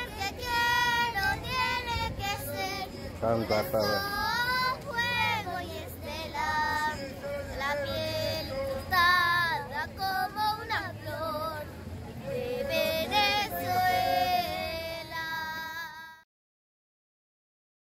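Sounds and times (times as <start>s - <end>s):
girls singing unaccompanied: 0.0s - 16.2s.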